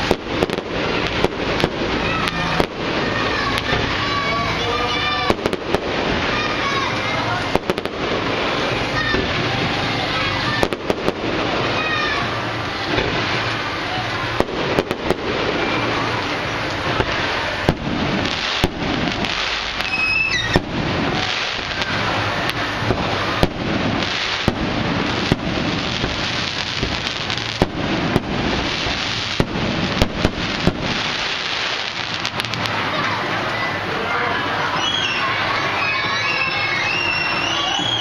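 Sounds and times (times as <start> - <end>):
firework whistle: 0.0 - 38.0
fireworks bangs: 0.0 - 38.0
fireworks crackling: 0.0 - 38.0.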